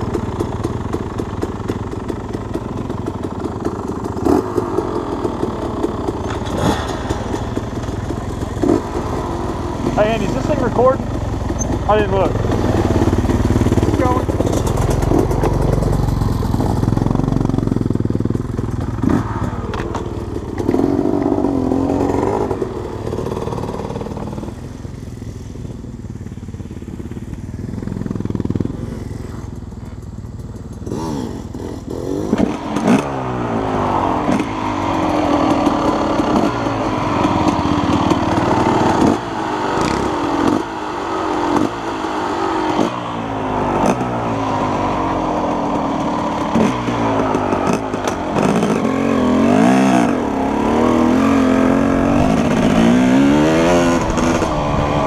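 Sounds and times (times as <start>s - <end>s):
dirt bike engine revving: 0.0s - 24.9s, 26.8s - 55.0s.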